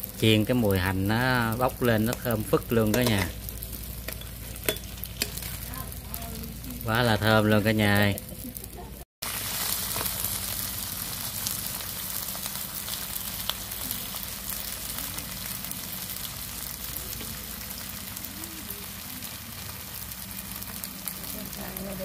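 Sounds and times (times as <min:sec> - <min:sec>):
pancake sizzling in hot oil: 0:00.0 - 0:22.0.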